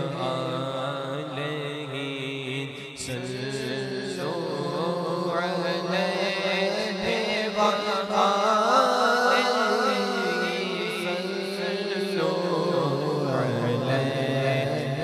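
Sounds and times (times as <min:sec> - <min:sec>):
man chanting devotional melody: 0:00.0 - 0:15.0.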